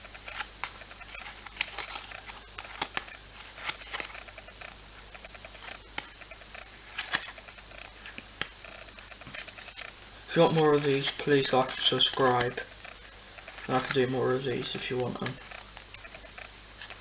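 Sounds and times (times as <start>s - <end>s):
trading cards clicking and rustling: 0.0s - 17.0s.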